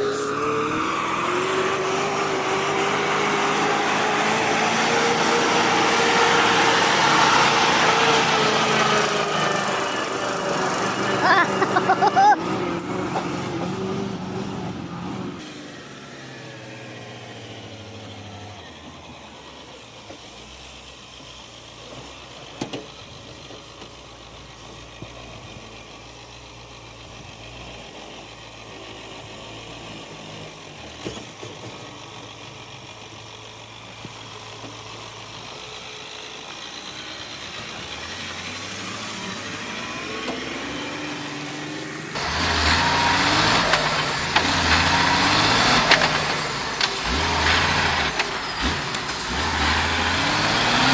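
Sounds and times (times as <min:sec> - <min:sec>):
truck diesel engine humming: 0:00.0 - 0:50.9.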